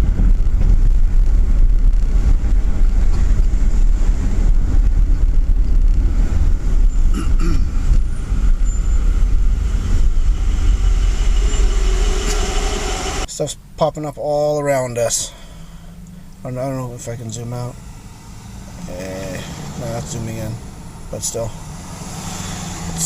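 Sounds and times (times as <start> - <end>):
road and engine rumble in car: 0.0 - 23.0.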